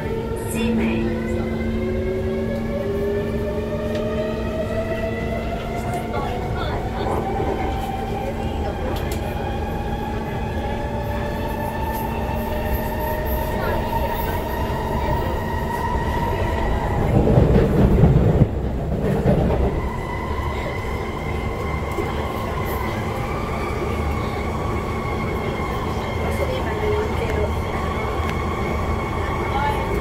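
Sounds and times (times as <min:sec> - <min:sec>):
train drive whine: 0:00.0 - 0:30.0
wheels rumbling on track: 0:00.0 - 0:30.0.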